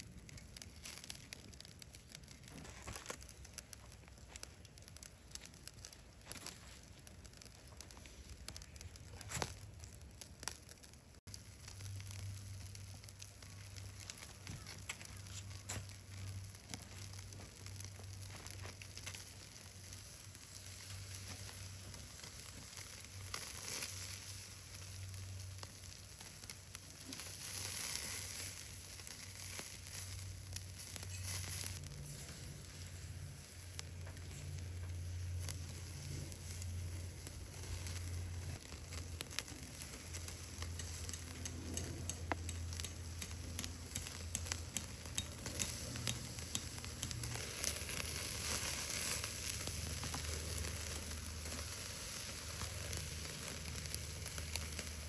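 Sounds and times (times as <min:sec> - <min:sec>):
food frying with sizzle: 0:07.5 - 0:55.0.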